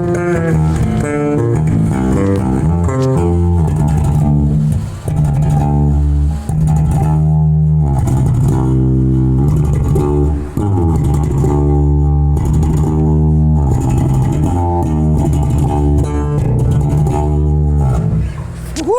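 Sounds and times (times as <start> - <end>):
electric bass plucked notes: 0.0 - 18.9.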